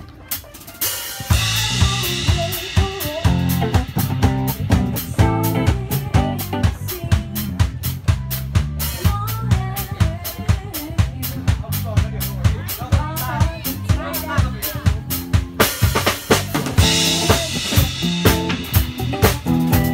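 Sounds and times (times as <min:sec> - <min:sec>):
drum kit: 0:00.0 - 0:19.9
electric bass guitar: 0:01.2 - 0:19.9.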